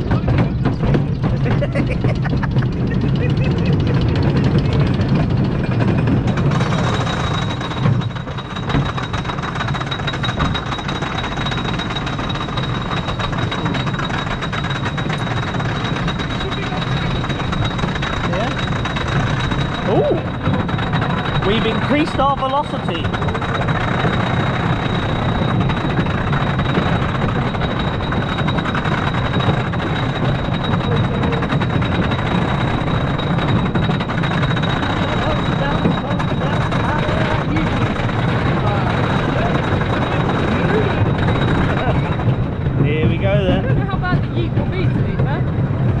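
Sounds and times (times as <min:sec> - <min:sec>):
roller coaster chain lift clatter: 0:00.0 - 0:46.0.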